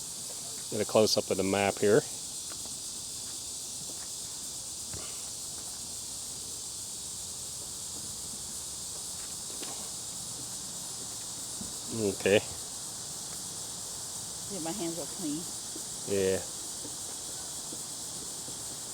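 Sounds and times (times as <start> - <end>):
high-pitched insect chorus: 0.0 - 18.9.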